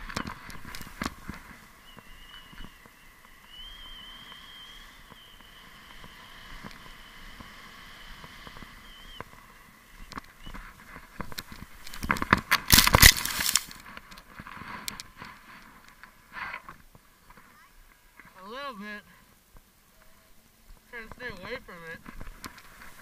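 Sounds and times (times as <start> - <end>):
snowboard sliding over snow: 0.0 - 18.8, 21.0 - 23.0.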